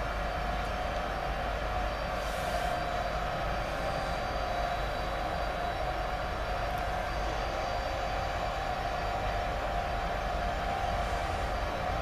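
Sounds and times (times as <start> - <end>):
electric locomotive whine: 0.0 - 12.0
train rumble: 0.0 - 12.0.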